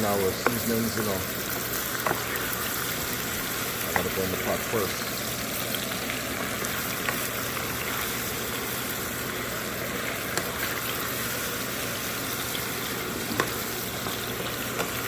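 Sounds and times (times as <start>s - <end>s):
seasonings sizzling in a pot: 0.0s - 15.0s.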